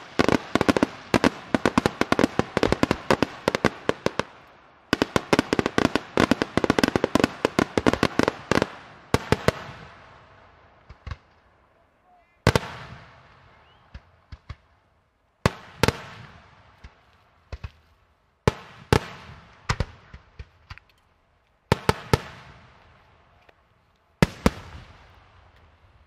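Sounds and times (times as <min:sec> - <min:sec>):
fireworks bangs with echo: 0:00.0 - 0:11.4, 0:12.4 - 0:14.7, 0:15.4 - 0:17.8, 0:18.4 - 0:20.8, 0:21.7 - 0:22.9, 0:24.2 - 0:25.7.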